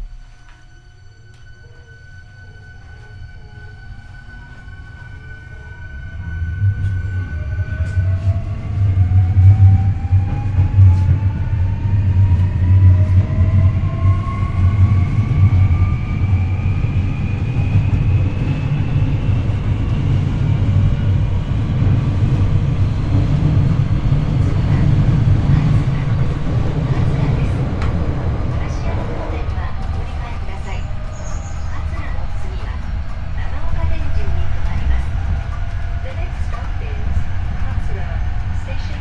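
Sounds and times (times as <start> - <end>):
train motors whining rising pitch: 0.0 - 39.0
wheels rumbling: 2.7 - 39.0.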